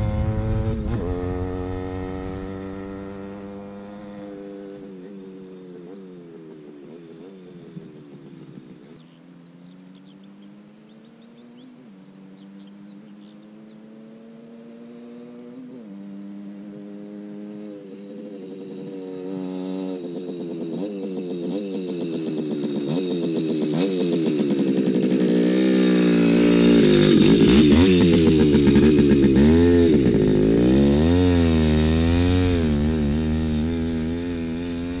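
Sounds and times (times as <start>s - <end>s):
two-stroke motorcycle engine revving: 0.0s - 35.0s.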